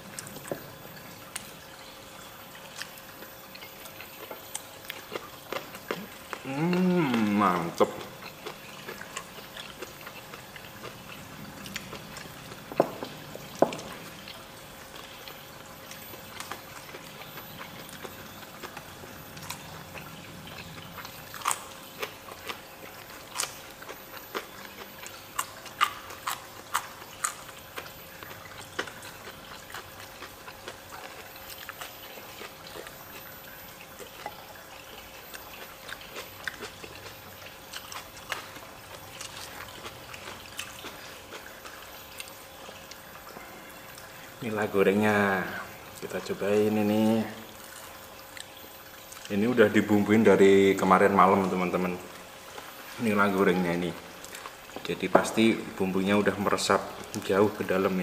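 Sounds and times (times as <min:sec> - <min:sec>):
faint steady hum: 0:00.0 - 0:58.0
people chewing and crunching: 0:00.0 - 0:58.0.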